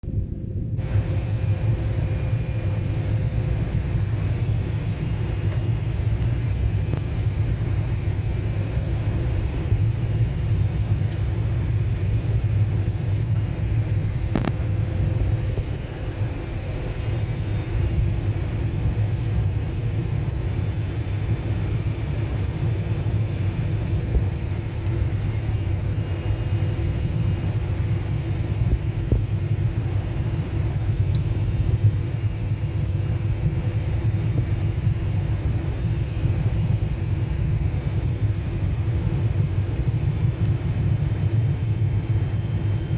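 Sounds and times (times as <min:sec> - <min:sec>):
airliner cabin engine rumble: 0:00.0 - 0:42.9
faint steady whining tones: 0:00.1 - 0:42.9.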